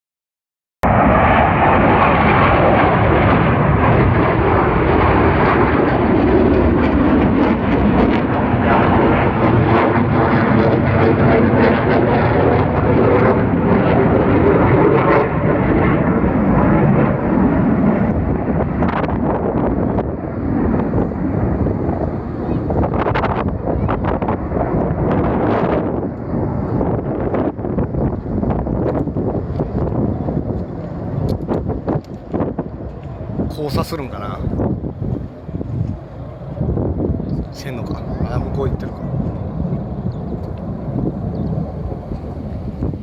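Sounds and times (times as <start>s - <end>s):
jet fighter engines roaring: 0.8s - 43.0s.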